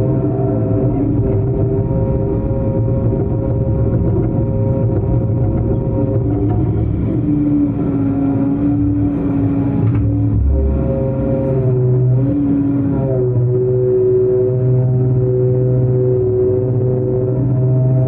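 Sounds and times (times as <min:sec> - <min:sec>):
deep rumble: 0:00.0 - 0:18.0.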